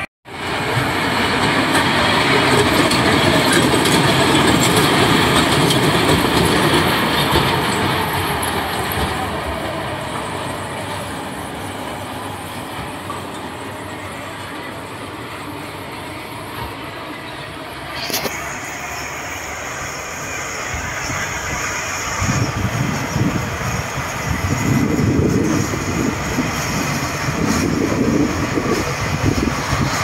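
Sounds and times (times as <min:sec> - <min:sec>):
roller coaster rumbling and rattling: 0:00.0 - 0:30.0.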